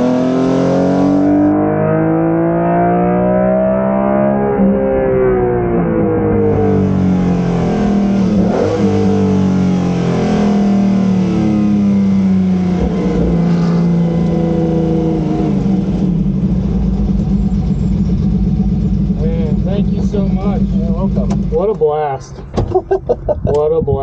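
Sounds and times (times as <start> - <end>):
race car engine from cabin: 0.0 - 23.9.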